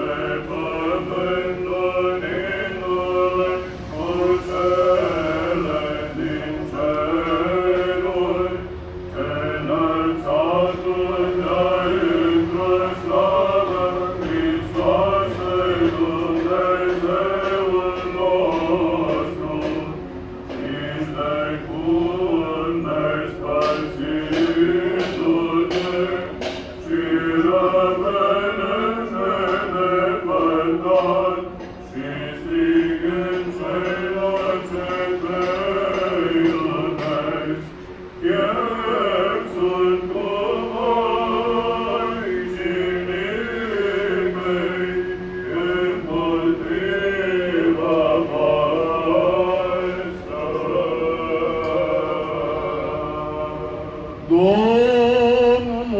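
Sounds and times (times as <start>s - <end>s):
choir chanting a hymn: 0.0s - 55.9s.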